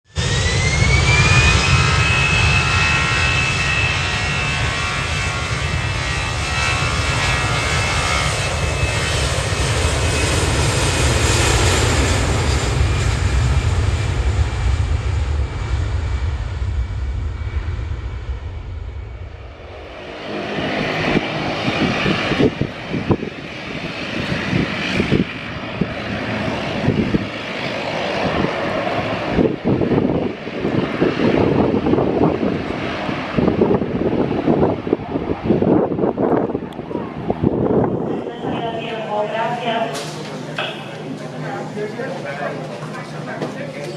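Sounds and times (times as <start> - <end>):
airplane engines rumbling and whining: 0.0 - 43.9.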